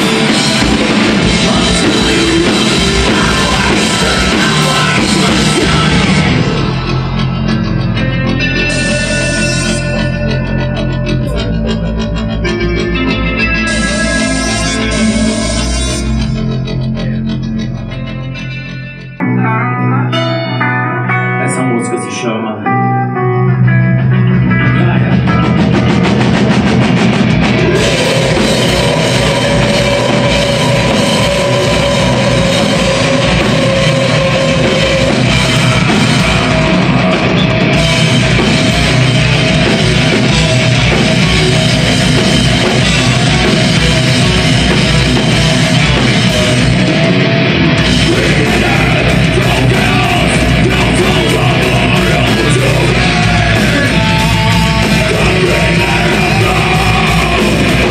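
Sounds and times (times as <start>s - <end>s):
metal vocals: 0.0s - 22.7s, 24.2s - 57.9s
metal band playing live: 0.0s - 57.9s.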